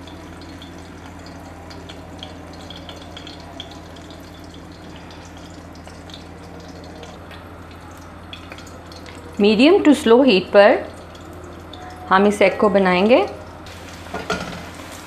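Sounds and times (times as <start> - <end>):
eggs sizzling in hot oil: 0.0 - 15.0
light crackles of frying: 0.0 - 15.0.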